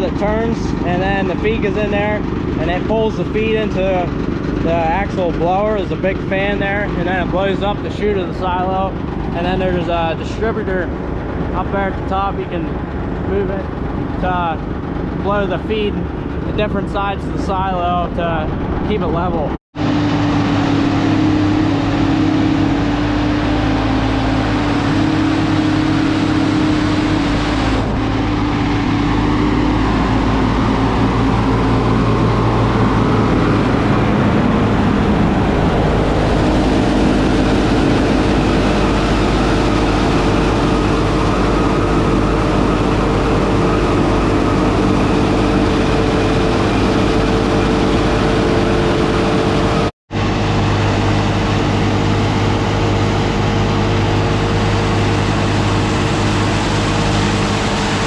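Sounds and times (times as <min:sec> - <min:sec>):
silage blower fan: 0:00.0 - 0:58.0
tractor engine drone: 0:00.0 - 0:58.0.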